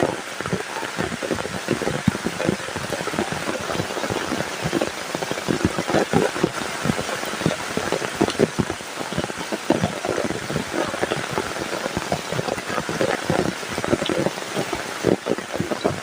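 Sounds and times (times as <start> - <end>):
heavy rain: 0.0 - 16.0
raindrops striking a surface: 0.0 - 16.0.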